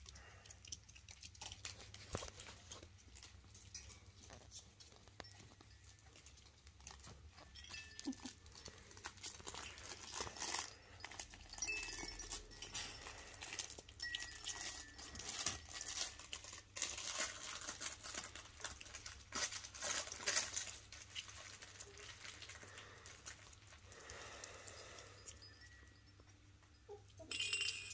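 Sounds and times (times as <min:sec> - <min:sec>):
crinkly toys crinkling: 0:00.0 - 0:25.9.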